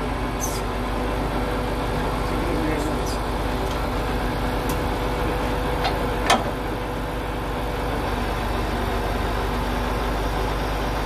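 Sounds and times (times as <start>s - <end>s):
diesel lorry engine idling: 0.0s - 11.0s.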